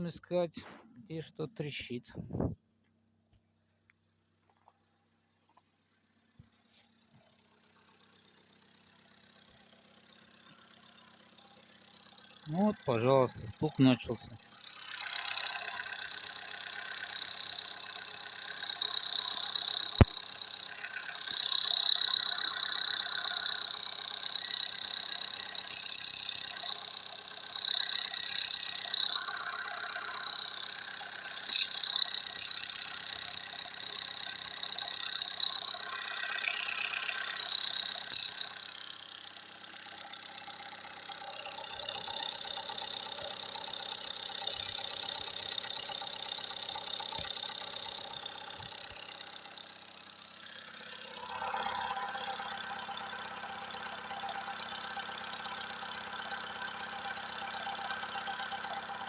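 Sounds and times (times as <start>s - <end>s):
engine idling with knocking clatter: 3.0s - 59.0s.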